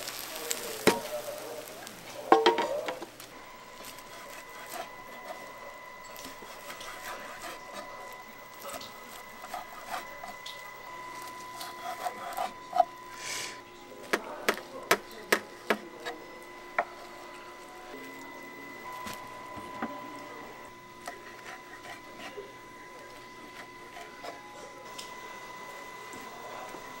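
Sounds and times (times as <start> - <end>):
high electrical whine: 0.0 - 27.0.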